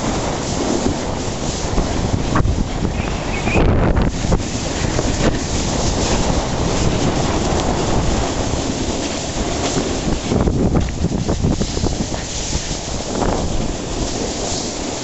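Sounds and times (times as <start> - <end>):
scraping over packed snow: 0.0 - 15.0
wind rushing over microphone: 0.0 - 15.0.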